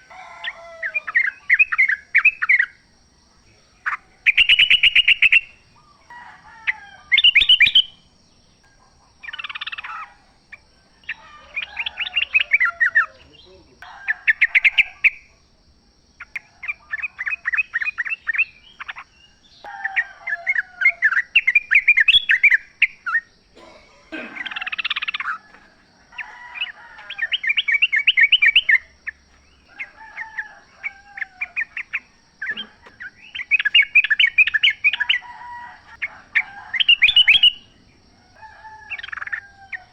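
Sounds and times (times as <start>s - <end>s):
birds chattering song: 0.0s - 39.9s.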